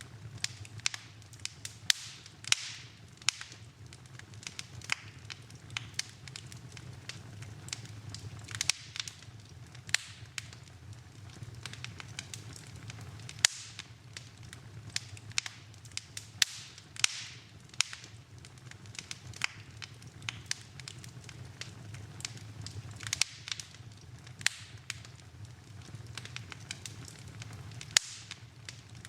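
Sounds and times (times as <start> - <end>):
fireplace fire crackling: 0.0 - 29.0.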